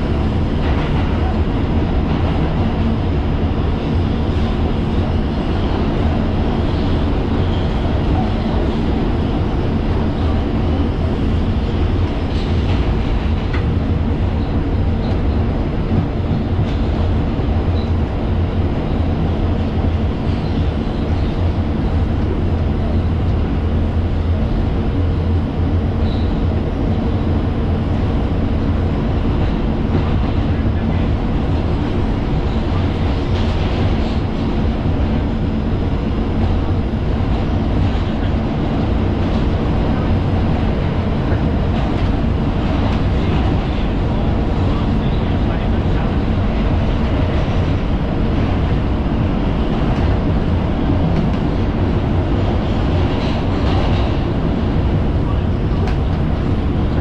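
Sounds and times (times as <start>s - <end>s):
constant low hum: 0.0s - 57.0s
steel wheels rumbling on rails: 0.0s - 57.0s.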